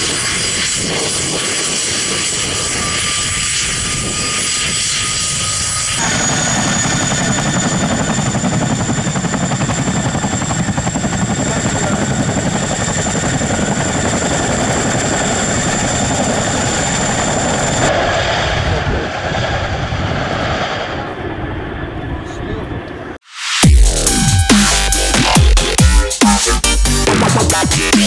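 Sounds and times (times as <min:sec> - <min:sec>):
helicopter rotor beat: 0:00.0 - 0:28.0
high turbine whine: 0:00.0 - 0:28.0.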